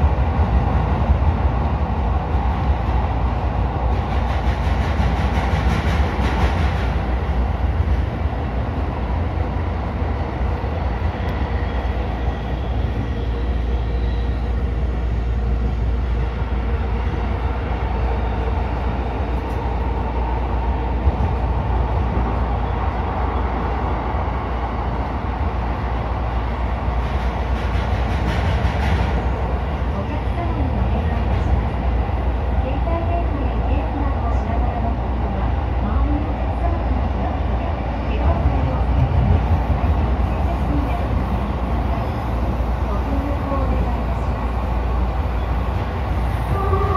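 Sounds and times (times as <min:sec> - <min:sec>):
subway train wheels rumbling: 0:00.0 - 0:46.9.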